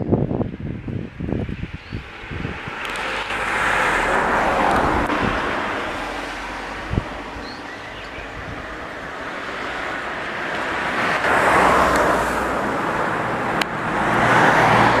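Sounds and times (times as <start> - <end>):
vehicle tyre noise: 0.0 - 15.0.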